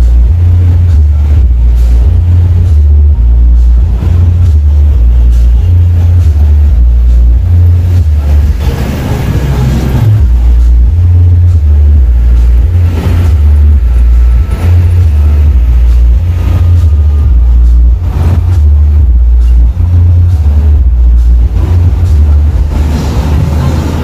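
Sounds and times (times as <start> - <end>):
loud deep bass music: 0.0 - 24.0
motorcycle traffic noise: 0.0 - 24.0.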